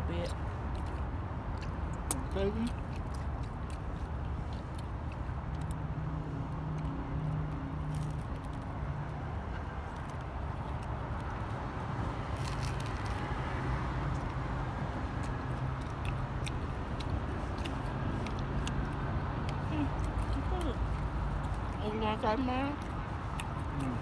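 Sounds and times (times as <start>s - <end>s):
low outdoor rumble: 0.0s - 24.0s
clicks and crunches of eating: 0.2s - 24.0s.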